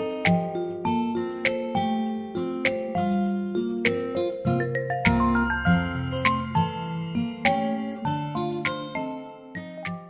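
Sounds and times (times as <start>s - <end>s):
gentle plucked melody: 0.0s - 10.0s.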